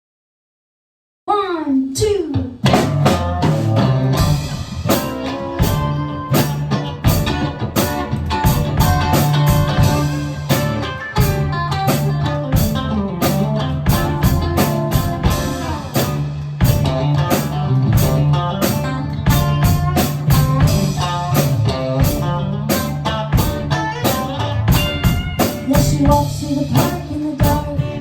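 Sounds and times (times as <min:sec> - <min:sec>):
drum kit steady beat: 0:02.0 - 0:28.0
electric guitar playing: 0:02.6 - 0:28.0
low bass line: 0:02.6 - 0:28.0.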